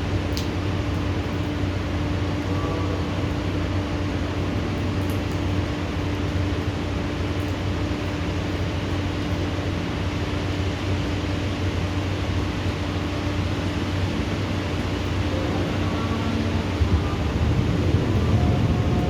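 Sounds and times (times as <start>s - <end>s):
heavy rain downpour: 0.0s - 19.0s.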